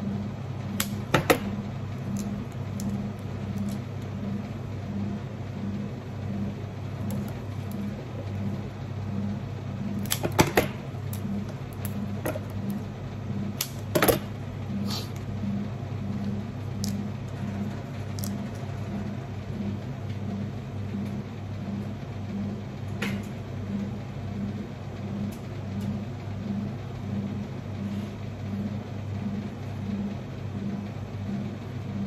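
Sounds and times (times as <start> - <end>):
pulsing mechanical hum: 0.0 - 32.0.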